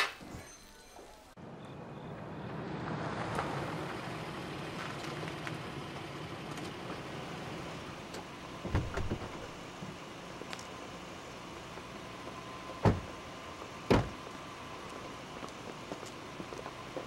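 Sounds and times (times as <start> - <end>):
road noise: 1.0 - 17.0
car engine: 1.3 - 17.0.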